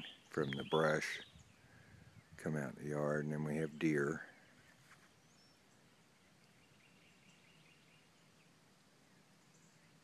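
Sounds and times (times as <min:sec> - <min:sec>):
distant birds singing: 0:00.0 - 0:10.0.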